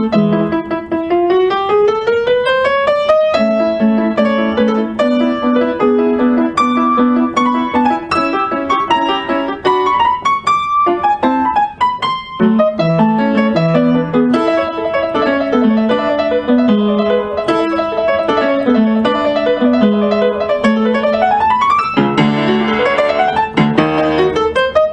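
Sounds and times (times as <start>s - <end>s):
piano music: 0.0s - 24.9s.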